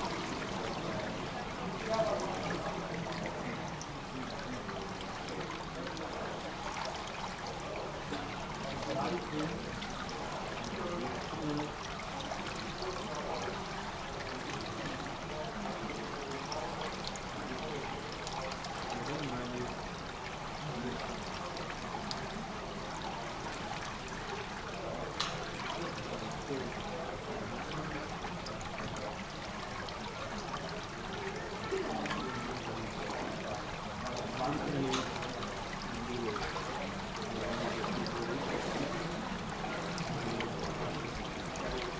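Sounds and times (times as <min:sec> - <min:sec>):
water trickling into gutter: 0:00.0 - 0:41.9.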